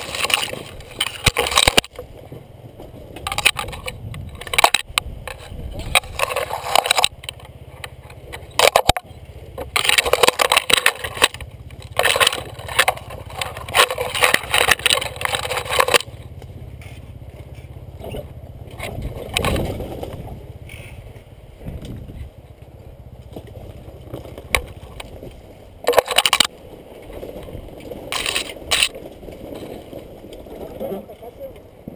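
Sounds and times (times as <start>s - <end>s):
branches scraping against bike: 0.0s - 31.9s
low rumble of bike ride: 0.0s - 31.9s.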